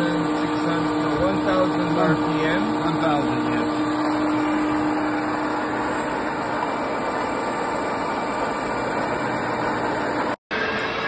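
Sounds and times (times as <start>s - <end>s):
machine drive drone: 0.0s - 11.0s
steady hum: 0.0s - 11.0s.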